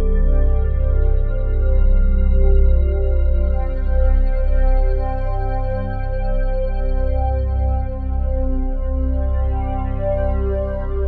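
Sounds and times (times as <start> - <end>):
synthesizer and keyboard chords: 0.0 - 11.0.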